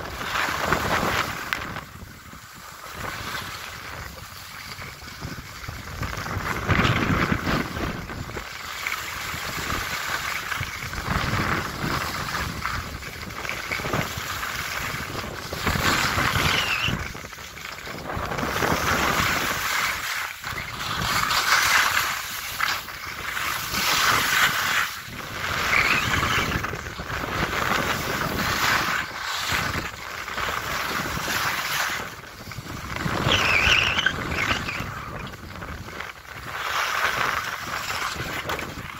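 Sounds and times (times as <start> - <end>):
wind buffeting microphone: 0.0 - 8.5, 9.1 - 19.7, 22.9 - 36.6, 37.2 - 38.9
skis scraping over snow: 0.0 - 38.9.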